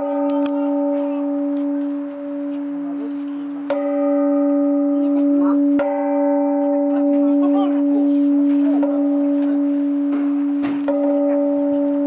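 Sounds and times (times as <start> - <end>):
large temple bell ringing: 0.0 - 12.0.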